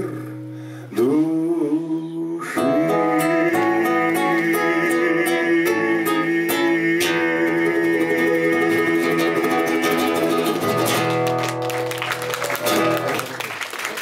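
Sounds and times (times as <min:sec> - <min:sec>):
acoustic guitar playing: 0:00.0 - 0:13.4.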